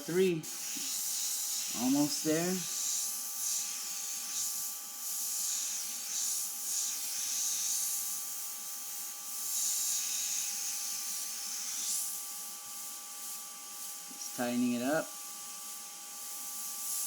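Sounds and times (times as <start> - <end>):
airbrush hissing: 0.0 - 17.0.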